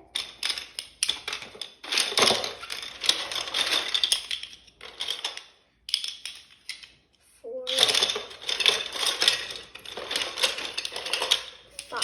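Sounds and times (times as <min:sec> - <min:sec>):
plastic pieces clicking and clattering: 0:00.0 - 0:07.1, 0:07.7 - 0:12.0.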